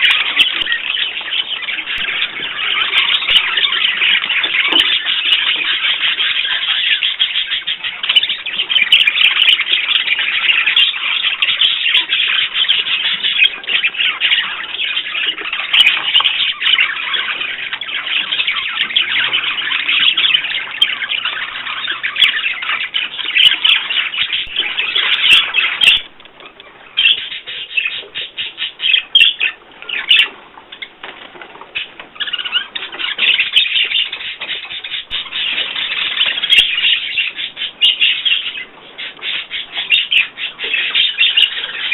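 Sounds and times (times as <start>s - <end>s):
cage birds chirping: 0.0s - 41.9s.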